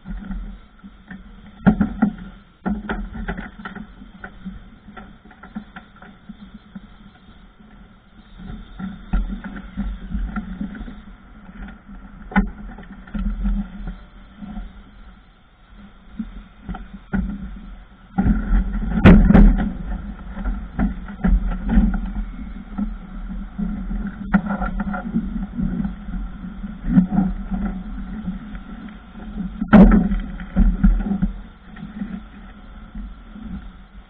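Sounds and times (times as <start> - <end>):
low rumble: 6.6 - 34.0.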